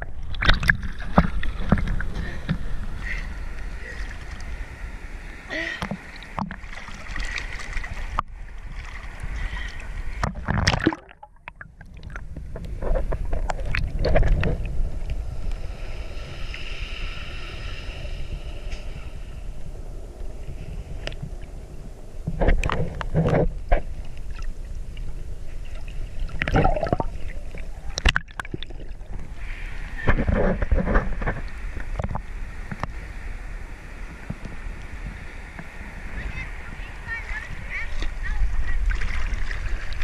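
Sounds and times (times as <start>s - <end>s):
sea water sloshing and splashing: 0.0s - 19.0s, 22.2s - 33.2s, 33.8s - 40.0s.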